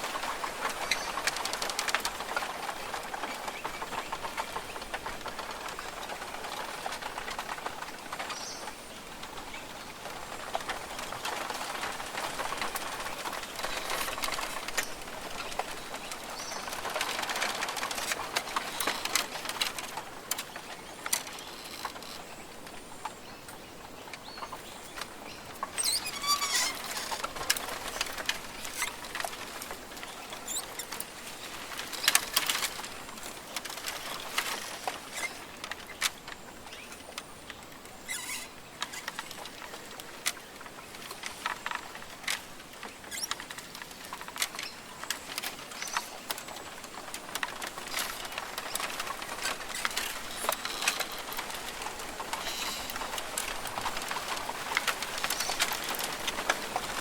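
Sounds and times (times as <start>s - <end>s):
rustle and patter of clicks: 0.0s - 57.0s.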